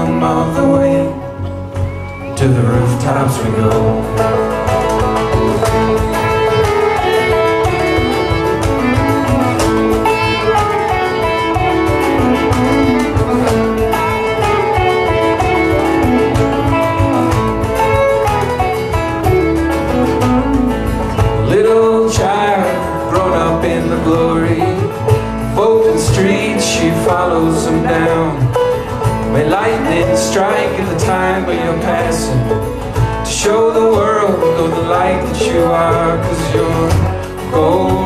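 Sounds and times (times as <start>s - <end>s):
acoustic guitar: 0.0s - 38.0s
bowed fiddle: 0.0s - 38.0s
picked banjo: 0.0s - 38.0s
upright bass: 0.0s - 38.0s.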